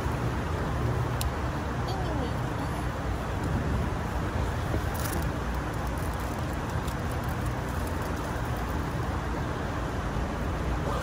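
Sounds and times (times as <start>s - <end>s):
traffic rumble on bridge: 0.0s - 11.0s.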